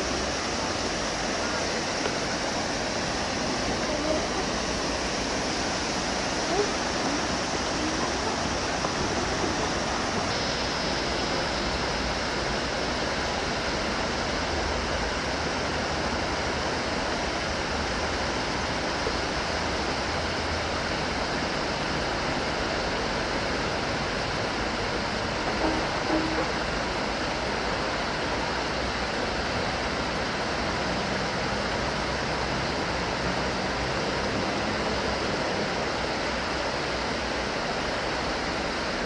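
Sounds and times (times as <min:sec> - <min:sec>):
river rushing over stones: 0:00.0 - 0:39.0.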